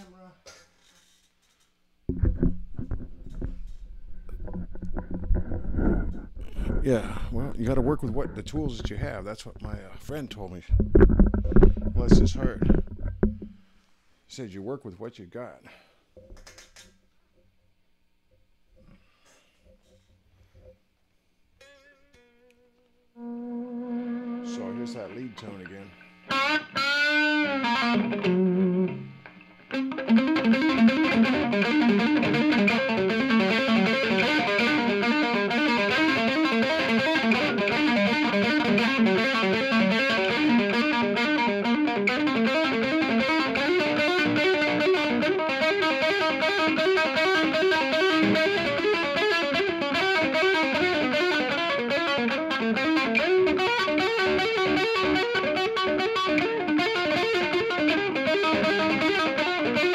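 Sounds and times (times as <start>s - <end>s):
distorted electric guitar lead: 2.1s - 13.6s, 21.6s - 59.9s.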